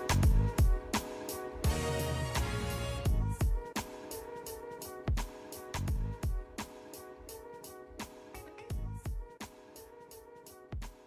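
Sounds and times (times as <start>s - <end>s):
background music with drum beat: 0.0s - 11.0s.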